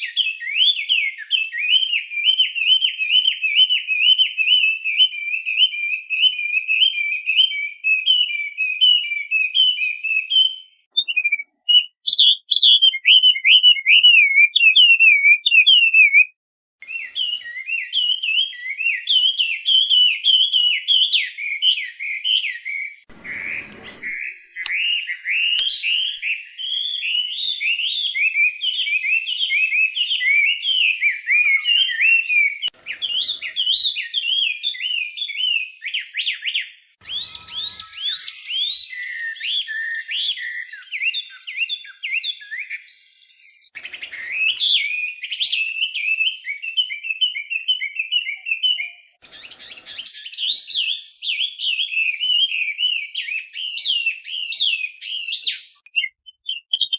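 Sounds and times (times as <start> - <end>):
bird singing whistled phrases: 0.0 - 56.9.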